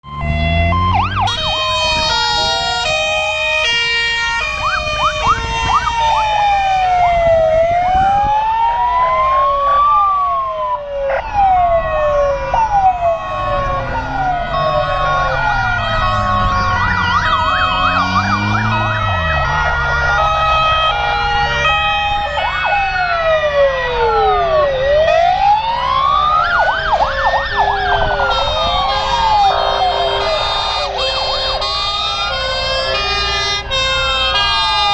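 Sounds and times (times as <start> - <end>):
truck engines droning: 0.0 - 34.9
two-tone siren: 0.0 - 34.9
wailing sirens: 0.0 - 34.9.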